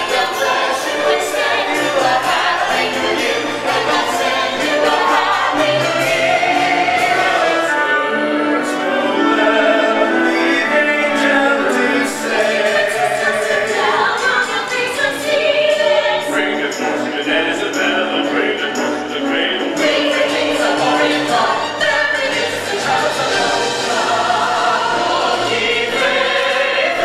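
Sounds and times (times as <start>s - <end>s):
carolers singing in harmony: 0.0s - 27.0s
musical accompaniment: 0.0s - 27.0s.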